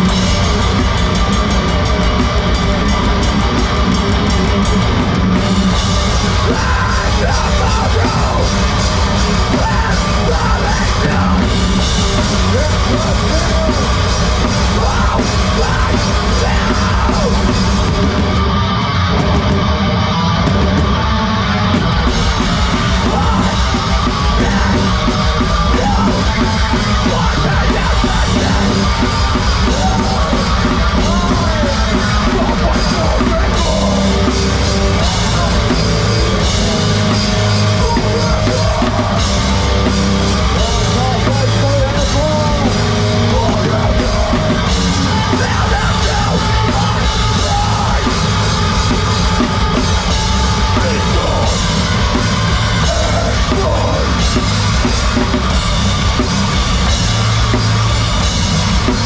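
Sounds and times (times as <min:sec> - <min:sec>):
heavy rock band playing: 0:00.0 - 0:59.0.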